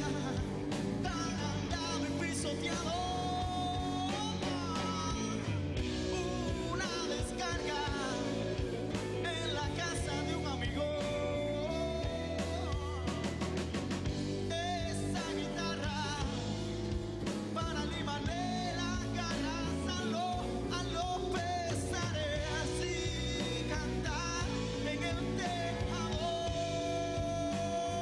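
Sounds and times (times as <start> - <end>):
drum kit and cymbals: 0.0 - 28.0
man singing with vibrato: 0.0 - 28.0.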